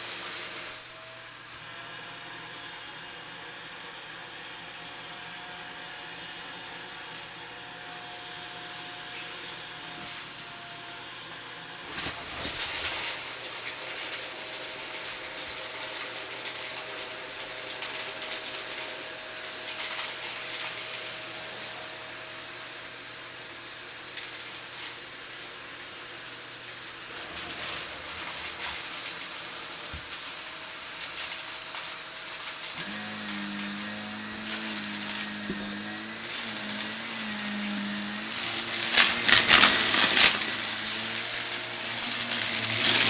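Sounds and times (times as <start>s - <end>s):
vacuum cleaner sucking up debris: 0.0s - 43.0s.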